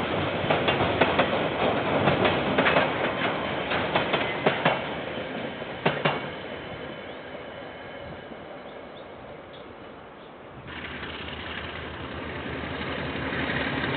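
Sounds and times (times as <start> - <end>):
freight train rumbling past: 0.0 - 13.9.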